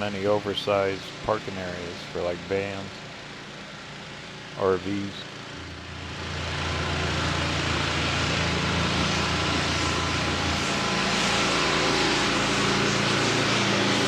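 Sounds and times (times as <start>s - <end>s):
vehicle engine hum: 0.0s - 14.0s
traffic noise: 2.6s - 14.0s.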